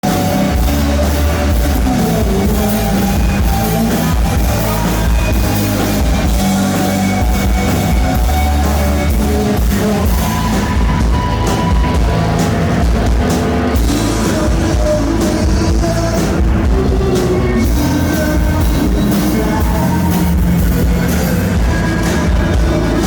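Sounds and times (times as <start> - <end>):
distorted live rock band: 0.0 - 23.0.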